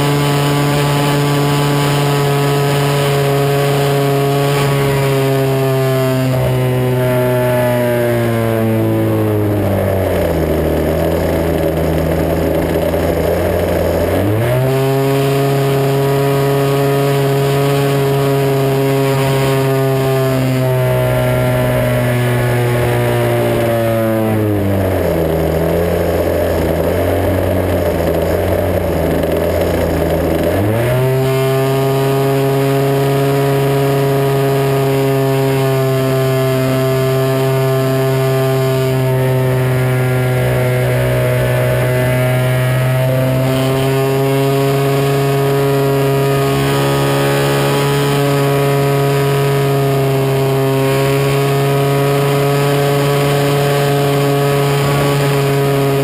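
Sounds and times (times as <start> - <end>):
model plane engine and propeller: 0.0 - 56.0.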